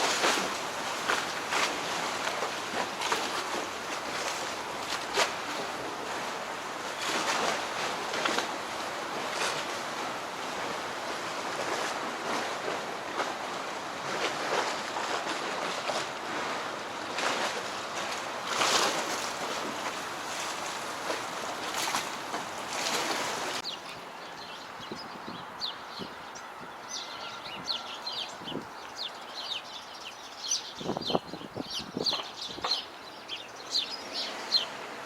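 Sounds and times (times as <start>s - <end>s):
water waves splashing: 0.0s - 35.0s.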